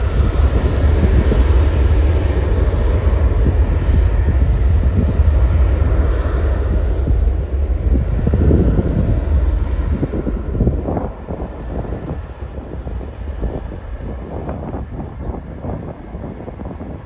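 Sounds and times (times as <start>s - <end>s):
jet engines roaring on takeoff roll: 0.0s - 17.0s.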